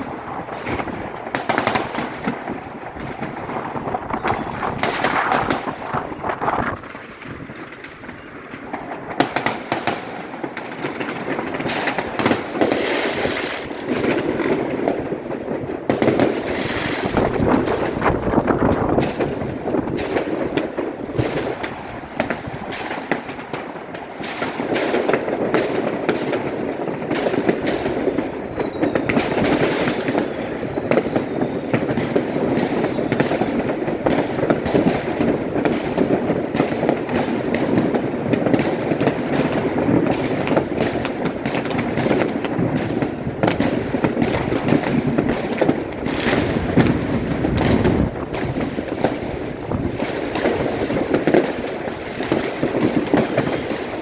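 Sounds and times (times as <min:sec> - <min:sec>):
falling firework whistle: 0:00.0 - 0:23.7, 0:24.3 - 0:54.0
fireworks bangs and crackles: 0:00.0 - 0:54.0.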